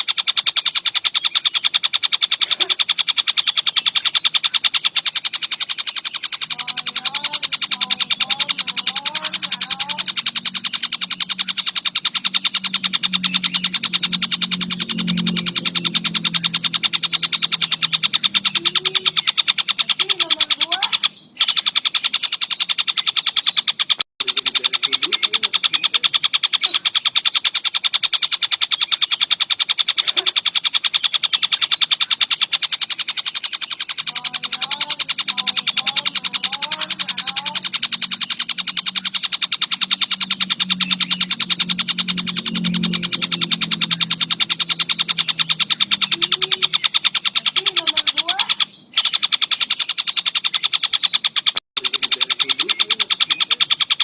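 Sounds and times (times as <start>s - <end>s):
kingfisher rattling call: 0.0s - 54.0s.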